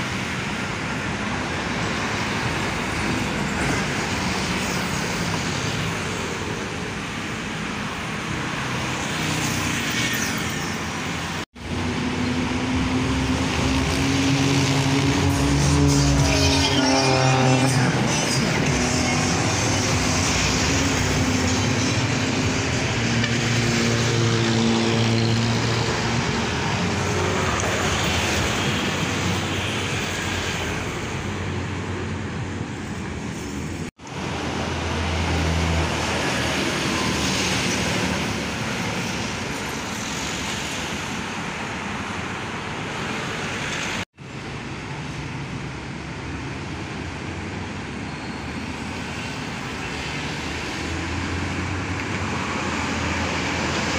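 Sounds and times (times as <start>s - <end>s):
buses and trucks driving past: 0.0s - 53.9s
bus engine passing close: 10.1s - 53.9s.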